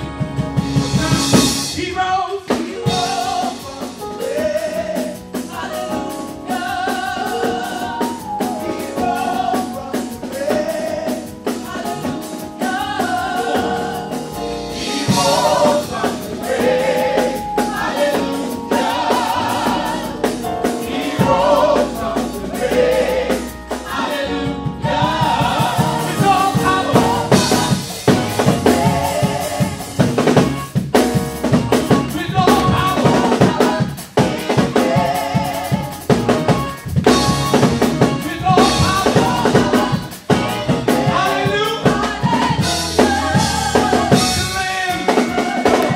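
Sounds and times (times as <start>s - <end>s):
drums driving beat: 0.0s - 45.9s
gospel singers and band: 0.0s - 45.9s.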